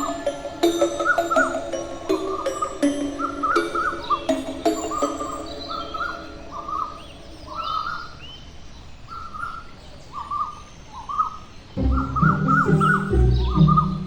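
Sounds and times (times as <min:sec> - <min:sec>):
bird chirps: 0:00.0 - 0:14.0
higher bird tweets: 0:00.0 - 0:14.0.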